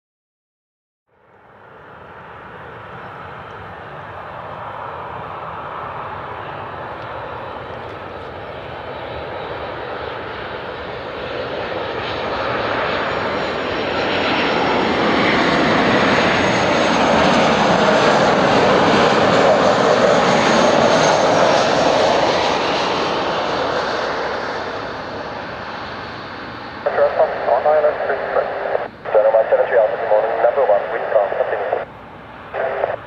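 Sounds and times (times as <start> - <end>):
jet airliner flying past: 1.1 - 33.0.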